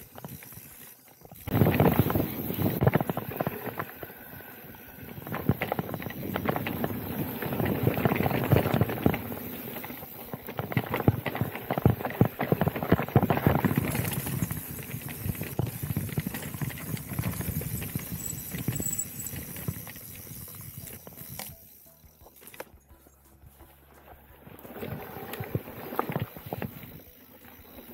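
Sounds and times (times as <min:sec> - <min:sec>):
bike chain and frame rattling: 0:00.0 - 0:23.1, 0:24.7 - 0:27.9.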